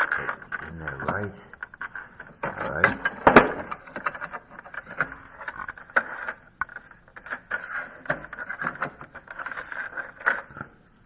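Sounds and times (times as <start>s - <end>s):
plastic clicks knocks and scrapes: 0.0s - 10.7s.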